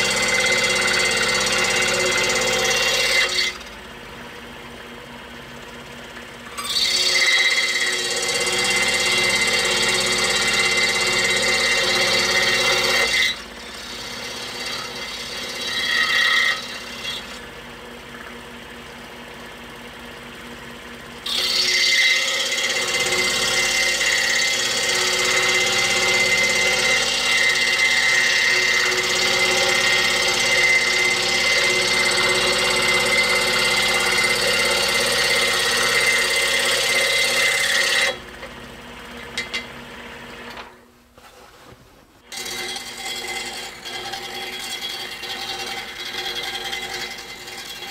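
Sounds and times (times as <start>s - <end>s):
scroll saw buzzing: 0.0s - 4.0s, 5.3s - 17.9s, 18.5s - 40.8s, 42.3s - 47.9s.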